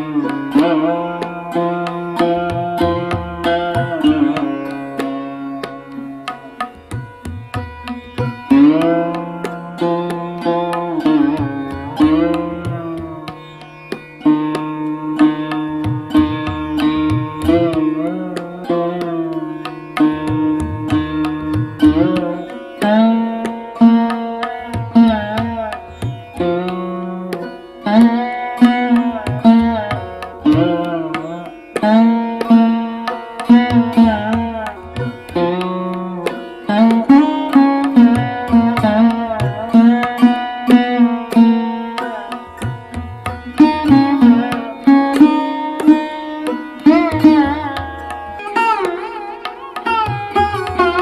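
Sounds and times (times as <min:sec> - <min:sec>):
hand drum: 0:00.0 - 0:51.0
plucked string melody: 0:00.0 - 0:51.0.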